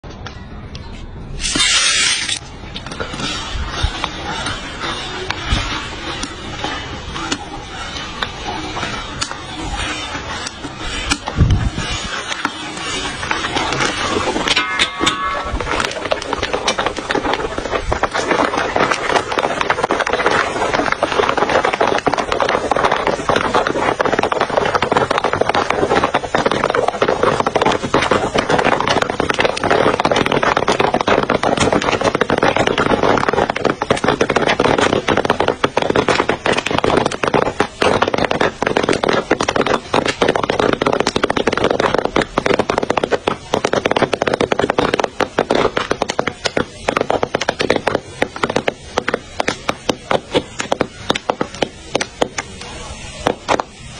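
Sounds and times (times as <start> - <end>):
popcorn popping in hot oil: 1.4 - 53.9.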